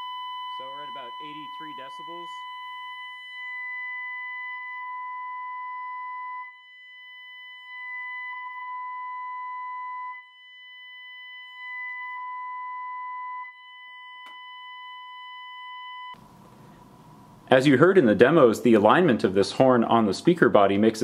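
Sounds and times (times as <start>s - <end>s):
steady sine-wave tone: 0.0s - 17.5s.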